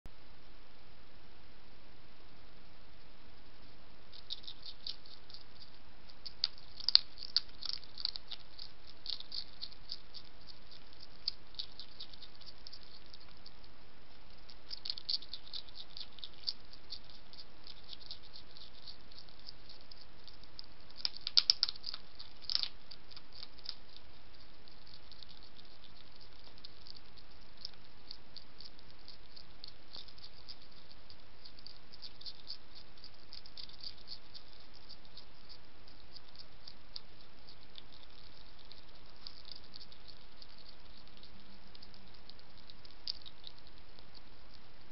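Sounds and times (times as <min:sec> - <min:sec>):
hedgehog crunching dry food: 0:04.1 - 0:44.8.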